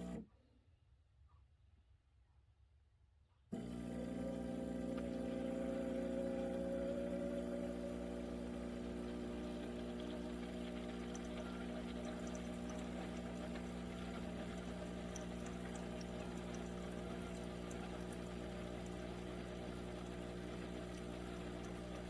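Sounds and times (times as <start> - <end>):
water pump humming: 0.0 - 0.2, 3.5 - 22.0
coffee pouring into cup: 3.6 - 22.0.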